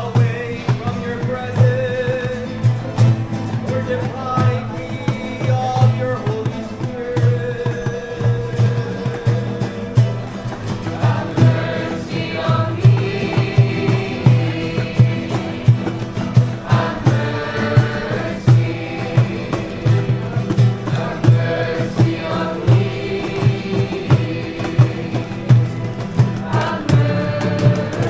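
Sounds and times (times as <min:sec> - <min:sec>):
choir-like voices singing: 0:00.0 - 0:28.0.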